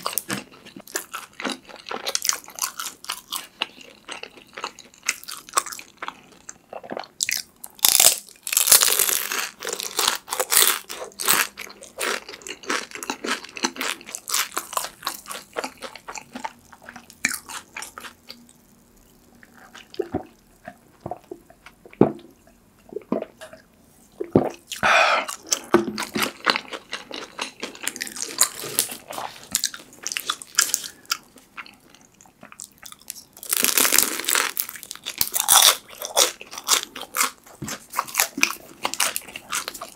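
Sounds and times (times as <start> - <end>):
crunching and chewing: 0.0 - 22.0, 24.4 - 39.9.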